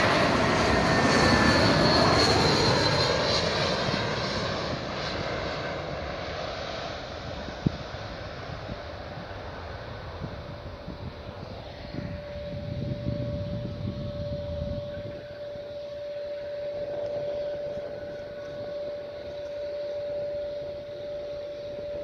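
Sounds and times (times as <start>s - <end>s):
high jet engine whine: 0.0s - 22.0s
jet engine low rumble: 0.0s - 22.0s.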